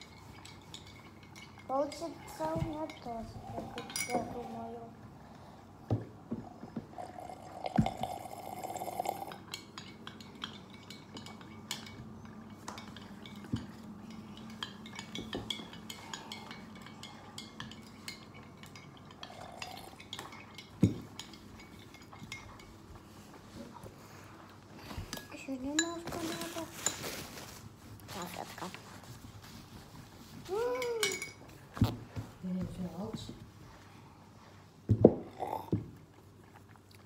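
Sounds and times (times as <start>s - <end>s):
faint drinking sounds: 0.0s - 27.0s, 33.2s - 37.0s.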